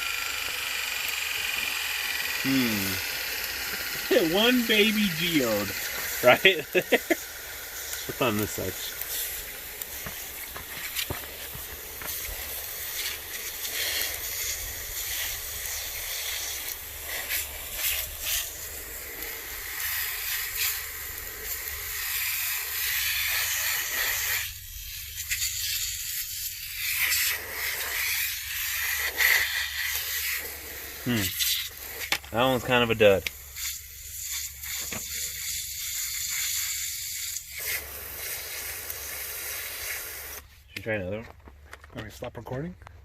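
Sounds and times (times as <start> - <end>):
steady hissing noise: 0.0 - 43.0.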